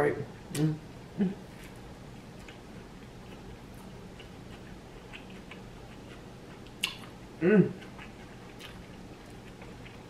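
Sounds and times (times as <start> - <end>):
person chewing: 1.4 - 10.0.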